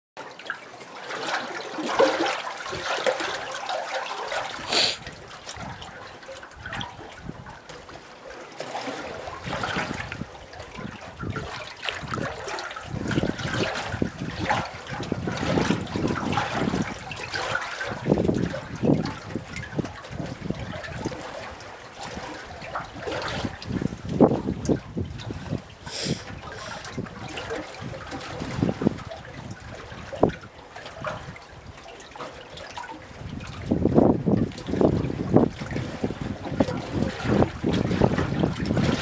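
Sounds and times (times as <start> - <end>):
lake waves lapping: 0.2 - 39.0.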